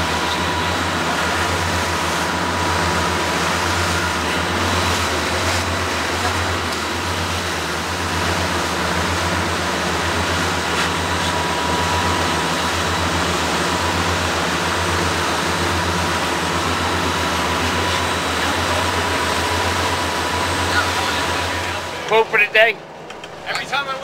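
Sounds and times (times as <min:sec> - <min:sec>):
boat engine drone: 0:00.0 - 0:24.0
thin steady whine: 0:00.0 - 0:24.0.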